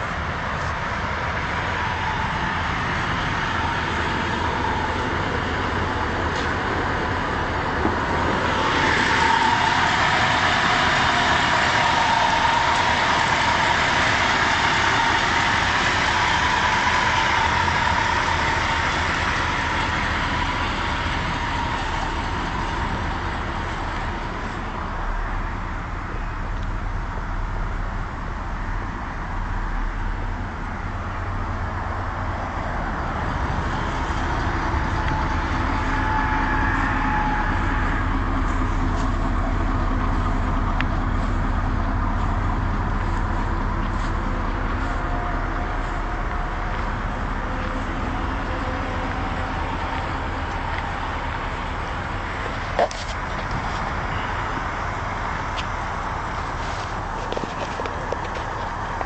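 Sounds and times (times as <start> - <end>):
car engine running: 0.0 - 59.0
high whine: 0.0 - 59.0.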